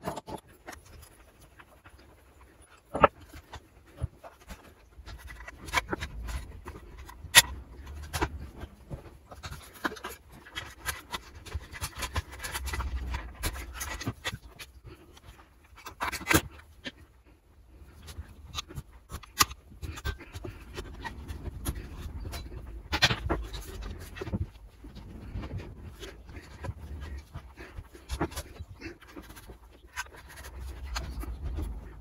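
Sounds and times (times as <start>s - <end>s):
tools clicking and scraping parts: 0.0s - 17.2s, 17.8s - 32.0s.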